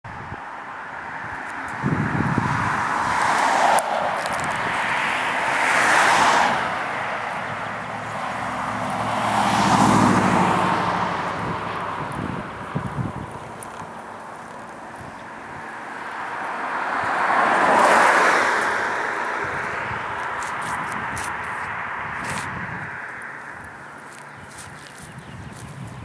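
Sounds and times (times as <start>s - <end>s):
vehicles passing by: 0.1s - 26.0s.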